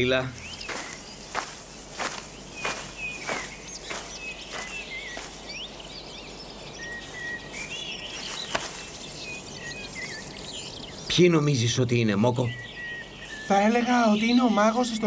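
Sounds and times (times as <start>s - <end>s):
small birds twittering: 0.0s - 15.0s.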